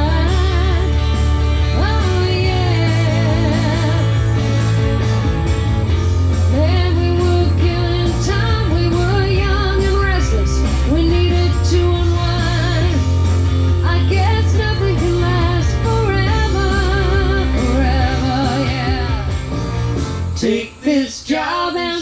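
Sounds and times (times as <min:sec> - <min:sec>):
lead guitar melody: 0:00.0 - 0:20.0
band playing country rock: 0:00.0 - 0:20.4.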